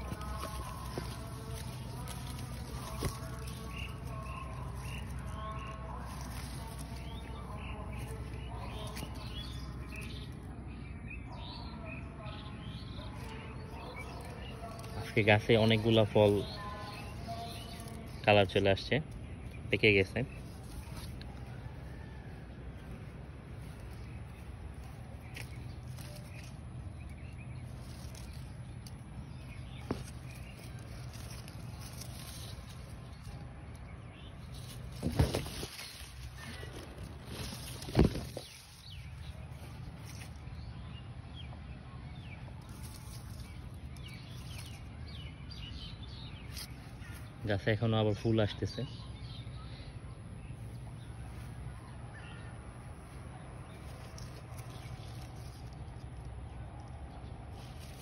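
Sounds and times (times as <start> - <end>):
low steady rumble: 0.0 - 47.4
leaves rustling against phone: 0.0 - 47.6, 50.4 - 58.0.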